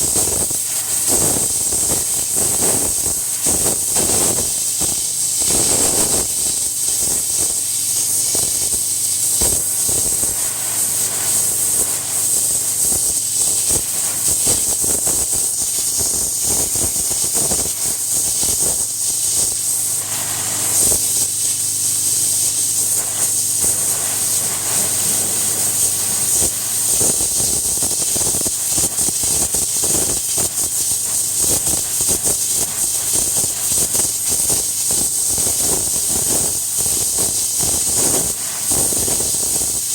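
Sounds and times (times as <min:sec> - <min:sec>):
pressure washer spray hissing: 0:00.0 - 0:39.9.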